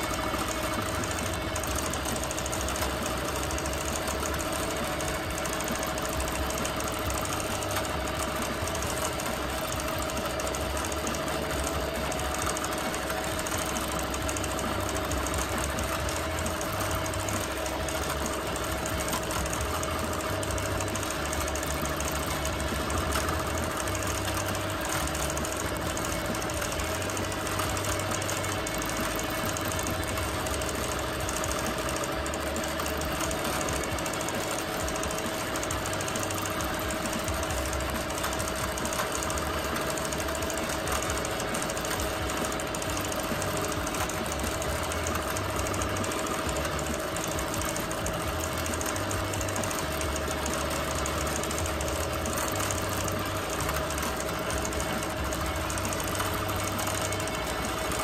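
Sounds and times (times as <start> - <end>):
quilting machine stitching: 0.0 - 58.0.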